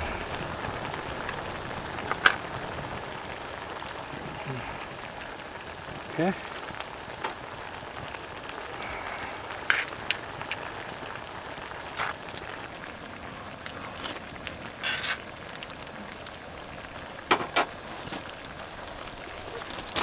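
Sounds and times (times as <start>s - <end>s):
rain hissing on a tarp: 0.0s - 20.0s.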